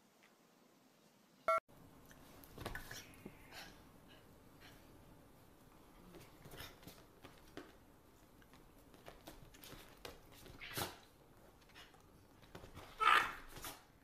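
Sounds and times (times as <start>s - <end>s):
soft rustles: 2.1s - 14.0s.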